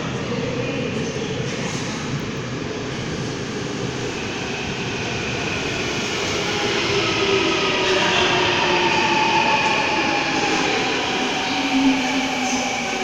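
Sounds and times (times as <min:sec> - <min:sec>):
multi-tone train whine: 0:00.0 - 0:13.0
subway train rumble: 0:00.0 - 0:13.0.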